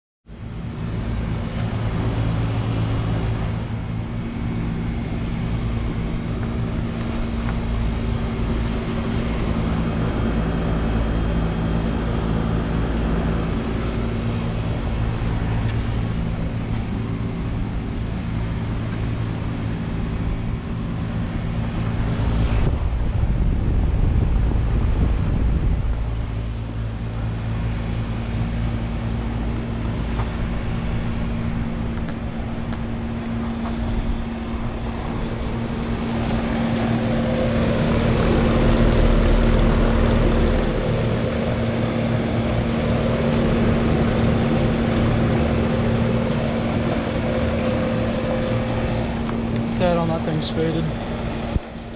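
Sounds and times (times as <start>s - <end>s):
compressor hum: 0.3s - 51.9s
condenser fan rushing: 0.3s - 51.9s.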